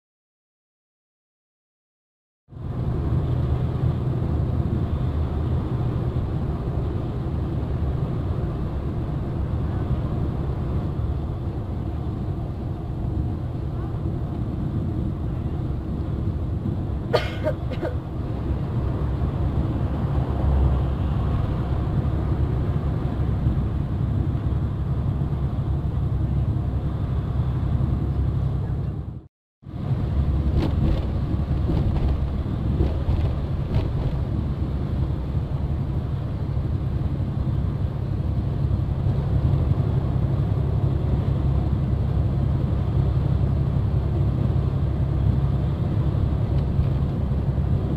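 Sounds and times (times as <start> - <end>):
engine and road noise: 2.5 - 47.9.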